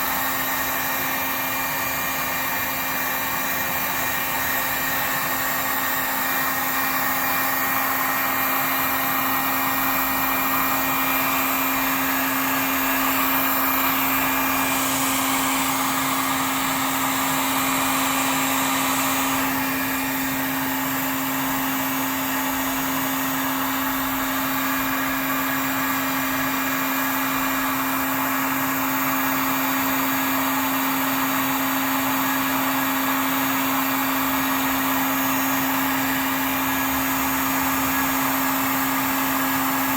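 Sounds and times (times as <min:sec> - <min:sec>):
heat gun motor and fan whir: 0:00.0 - 0:39.9.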